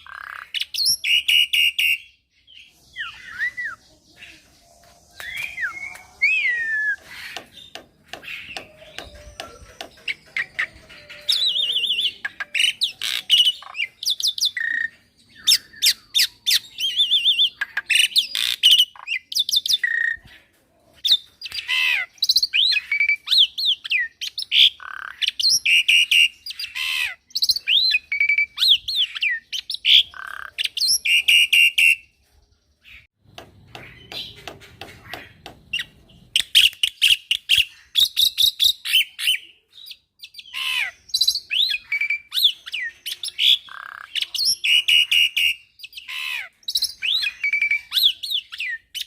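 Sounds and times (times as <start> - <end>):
bird singing varied song: 0.0 - 49.0.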